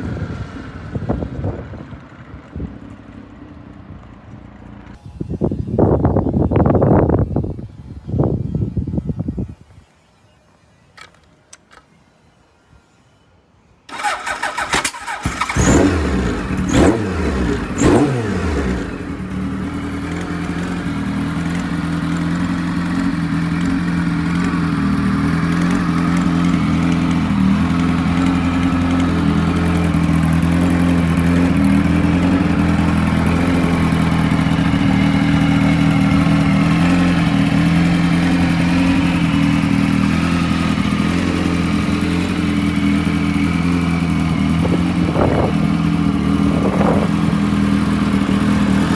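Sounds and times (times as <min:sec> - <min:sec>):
motorcycle engine revving and idling: 0:00.0 - 0:05.0, 0:13.9 - 0:48.9.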